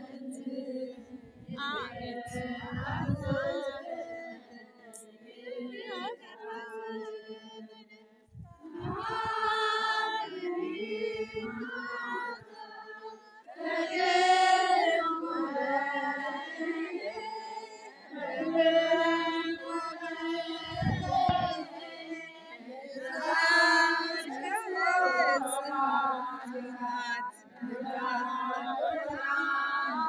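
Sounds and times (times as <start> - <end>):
voices singing a chant: 0.0 - 30.0.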